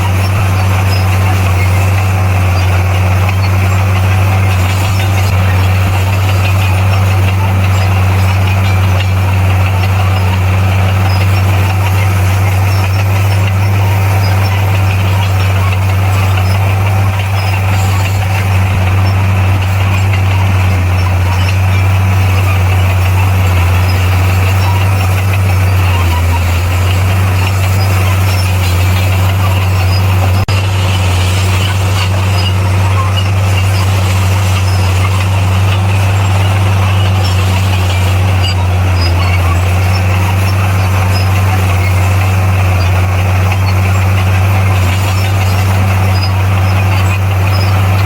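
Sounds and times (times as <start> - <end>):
bulldozer diesel engine droning: 0.0 - 48.0.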